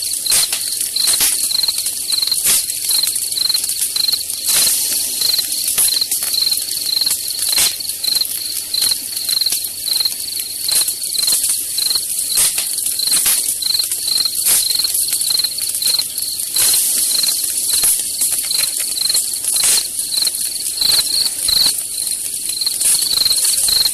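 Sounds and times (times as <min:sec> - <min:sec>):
campfire crackling and popping: 0:00.0 - 0:23.9
crickets chirping: 0:00.0 - 0:23.9.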